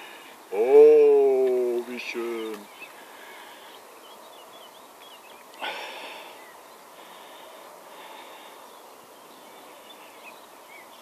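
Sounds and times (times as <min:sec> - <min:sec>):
faint bird chirps: 0:02.0 - 0:11.0.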